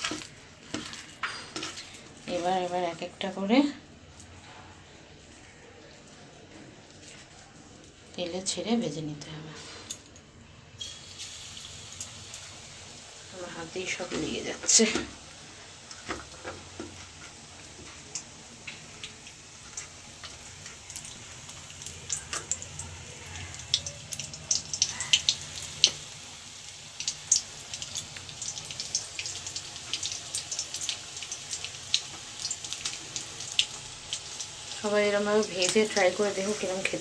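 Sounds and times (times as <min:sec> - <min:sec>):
vegetables frying in hot oil: 0:00.0 - 0:05.6, 0:10.8 - 0:37.0.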